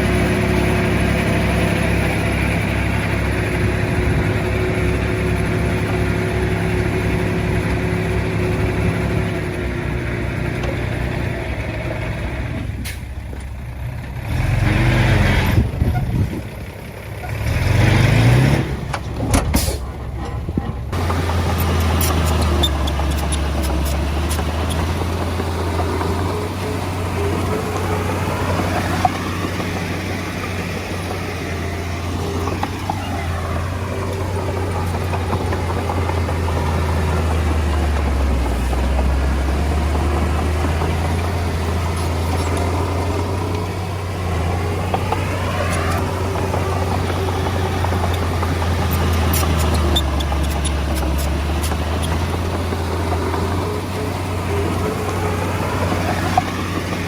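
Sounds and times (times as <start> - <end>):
heavy diesel engine: 0.0 - 57.0.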